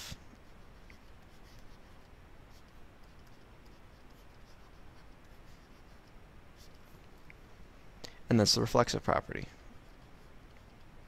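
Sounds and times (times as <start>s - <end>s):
stylus scratching on tablet: 0.0s - 7.0s, 9.0s - 11.0s
low room hum: 0.0s - 11.0s.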